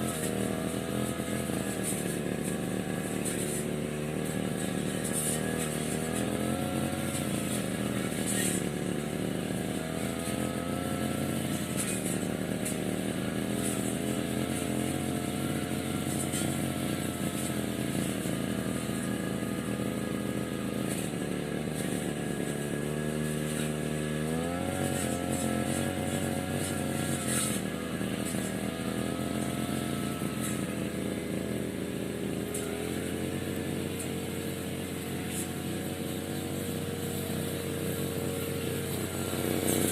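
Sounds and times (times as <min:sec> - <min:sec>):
grass cutter engine running: 0:00.0 - 0:39.9.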